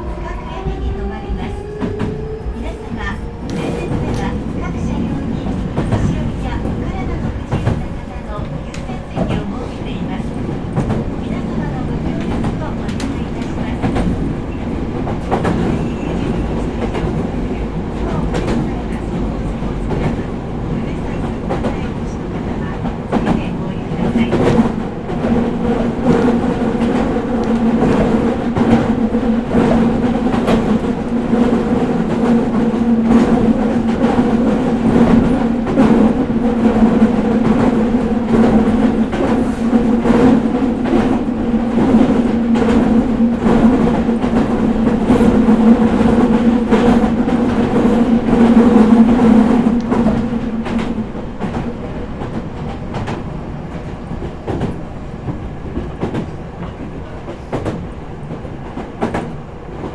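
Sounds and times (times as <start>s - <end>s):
rail joint clicks: 0.0s - 59.9s
train wheel-on-rail rumble: 0.0s - 59.9s.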